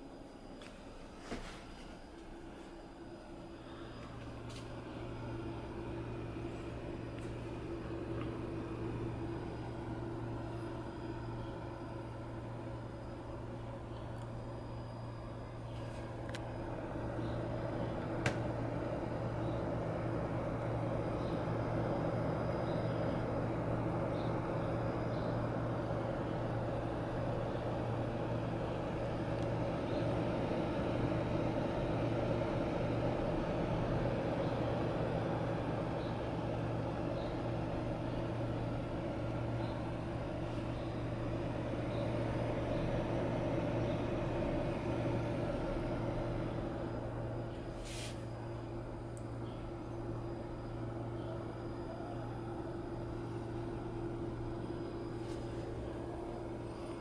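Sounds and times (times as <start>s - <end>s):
computer fans humming: 0.0s - 57.0s.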